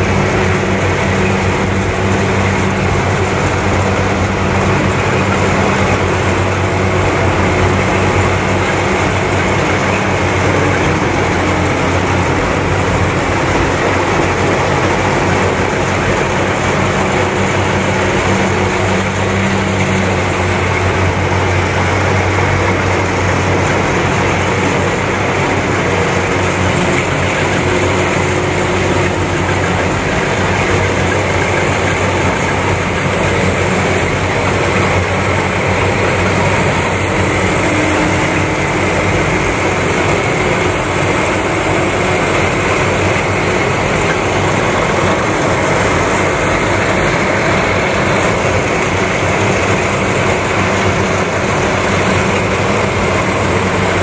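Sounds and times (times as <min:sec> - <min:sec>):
combine harvester engine hum: 0:00.0 - 0:54.0
mechanical harvester noise: 0:00.0 - 0:54.0.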